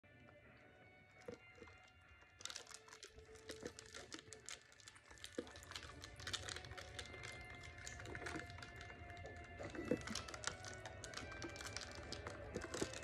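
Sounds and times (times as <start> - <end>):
drink sipped through straw: 1.1 - 13.0
plastic cup crinkling and clicking: 1.1 - 13.0.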